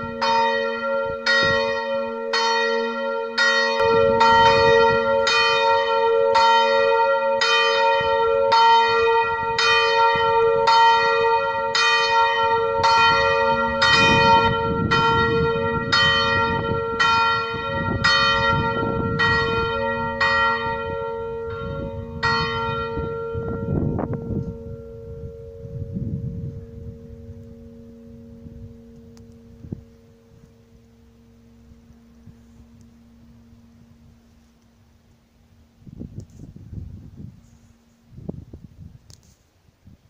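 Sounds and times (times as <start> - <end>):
church bell ringing: 0.0 - 35.9.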